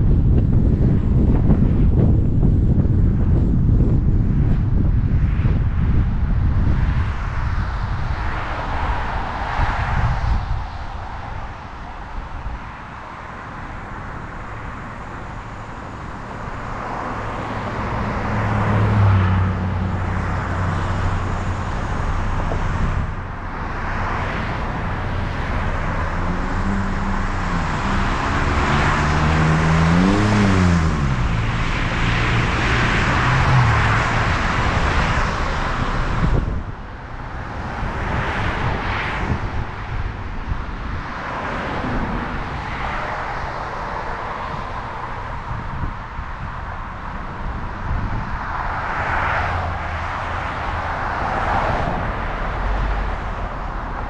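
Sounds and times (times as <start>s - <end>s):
car engine hum: 0.0s - 54.0s
tyre and wind road noise: 0.0s - 54.0s.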